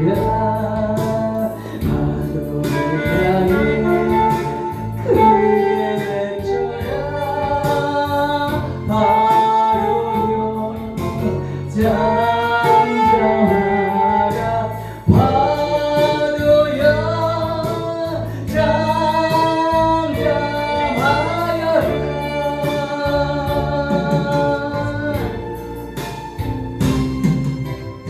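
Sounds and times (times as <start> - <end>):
gospel singing with choir: 0.0 - 26.0
instrumental accompaniment: 0.0 - 28.0.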